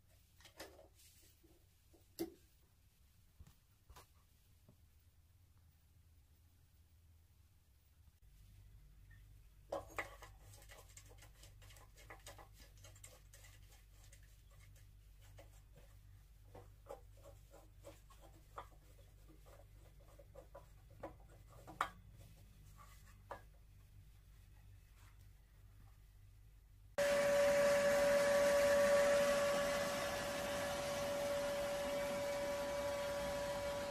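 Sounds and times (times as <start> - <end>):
faint low hum: 1.1 - 29.2.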